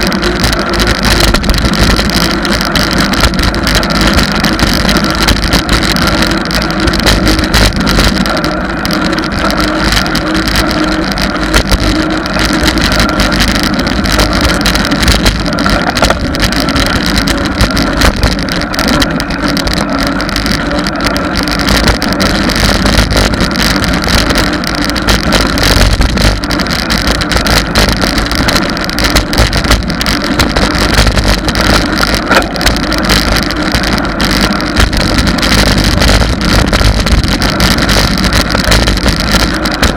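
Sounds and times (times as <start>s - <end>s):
road noise: 0.0s - 39.9s
wind rush on microphone: 0.0s - 39.9s.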